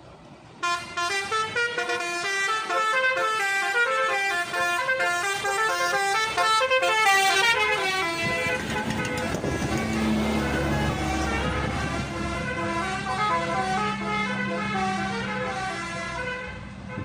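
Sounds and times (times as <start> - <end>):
bus horn playing a tune: 0.6 - 17.0.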